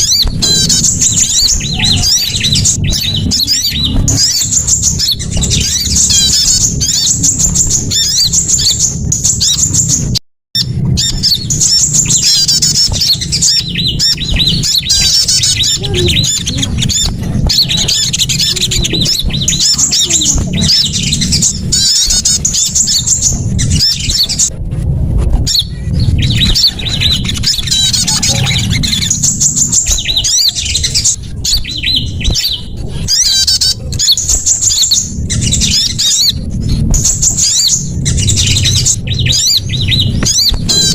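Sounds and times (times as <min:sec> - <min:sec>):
small songbirds calling: 0:00.0 - 0:24.5, 0:25.4 - 0:40.9
constant low rumble: 0:00.0 - 0:40.9.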